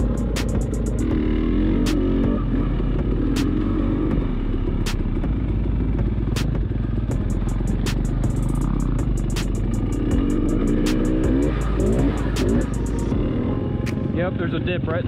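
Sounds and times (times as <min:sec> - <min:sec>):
dirt bike engine revving: 0:00.0 - 0:13.6.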